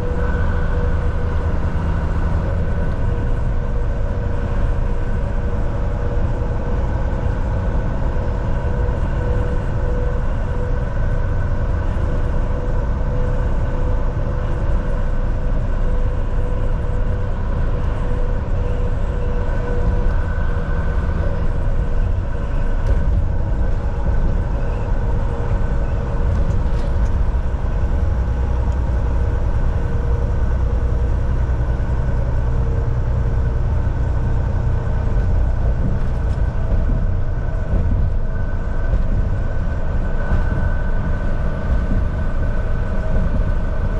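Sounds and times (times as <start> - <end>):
constant whine: 0.0 - 43.9
truck engine and road rumble: 0.0 - 43.9.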